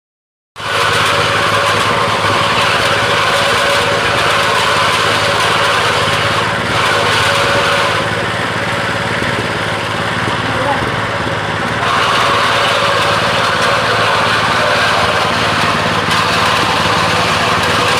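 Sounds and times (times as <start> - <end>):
peanut picking machine running: 0.6 - 17.9.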